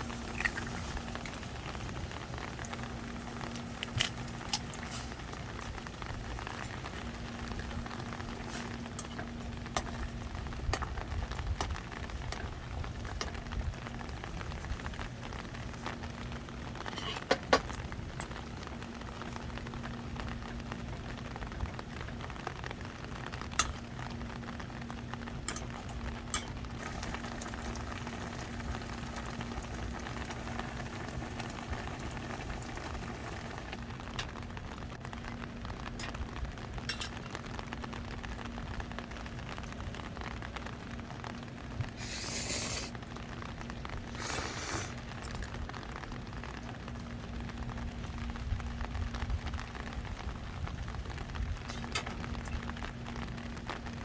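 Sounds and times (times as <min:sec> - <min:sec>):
low steady hum: 0:00.0 - 0:54.0
rain hiss: 0:00.0 - 0:54.0.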